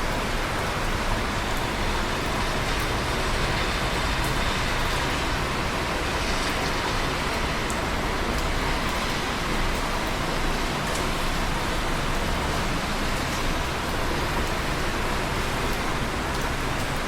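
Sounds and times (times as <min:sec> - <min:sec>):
steady rain hiss: 0:00.0 - 0:17.0
faint rain drop ticks: 0:00.1 - 0:17.0.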